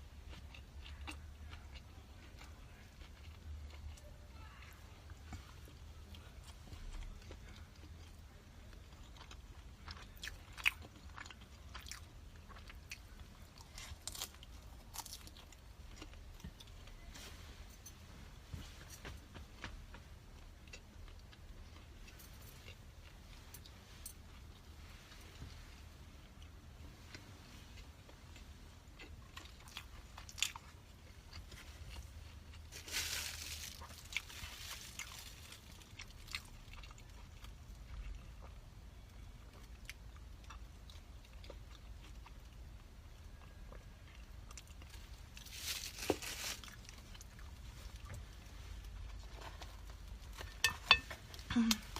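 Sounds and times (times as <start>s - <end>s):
person chewing food: 0.0s - 4.1s, 5.0s - 17.1s, 18.6s - 51.9s.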